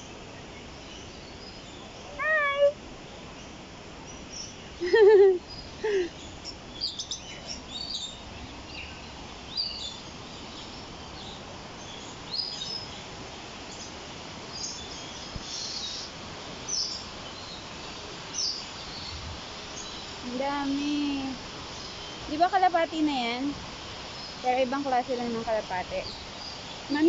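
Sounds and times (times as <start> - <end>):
birds chirping: 0.0 - 27.0
steady background hiss: 0.0 - 27.0.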